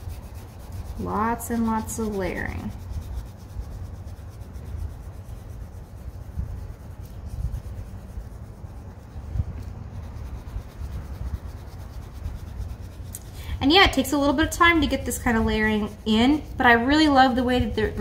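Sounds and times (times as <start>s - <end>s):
pen scratching on paper: 0.0s - 18.0s.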